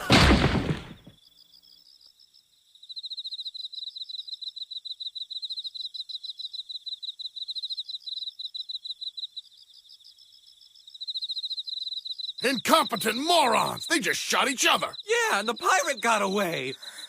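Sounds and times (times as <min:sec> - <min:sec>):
crickets chirping: 0:01.1 - 0:17.0.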